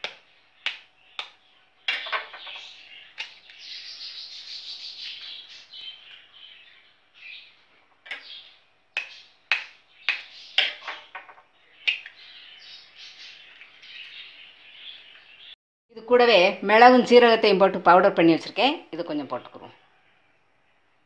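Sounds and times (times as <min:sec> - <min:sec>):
birds chirping: 0:00.0 - 0:17.7.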